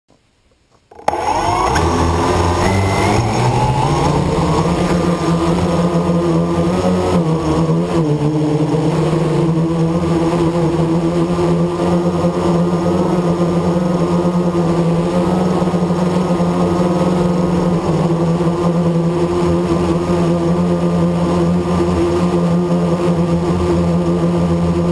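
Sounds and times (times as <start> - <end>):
quadcopter propellers buzzing: 0.9 - 24.9.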